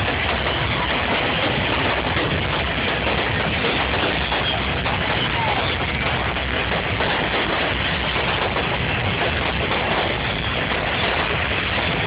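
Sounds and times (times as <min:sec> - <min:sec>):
fireworks bursts and crackles: 0:00.0 - 0:12.0
steady low rumble: 0:00.0 - 0:12.0.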